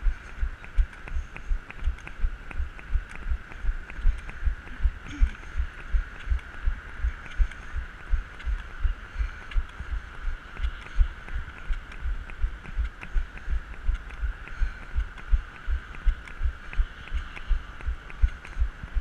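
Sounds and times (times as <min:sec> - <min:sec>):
rhythmic low thumps: 0:00.0 - 0:19.0
steady hum: 0:00.0 - 0:19.0.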